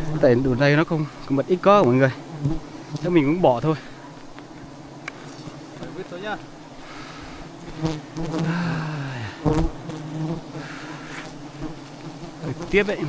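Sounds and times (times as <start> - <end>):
bee buzzing past: 0.0 - 13.0
bee swarm buzzing: 0.0 - 13.0.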